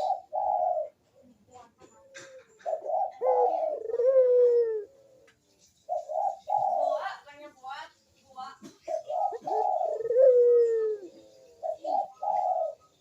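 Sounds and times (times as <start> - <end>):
dove cooing: 0.0 - 7.2, 8.6 - 13.0.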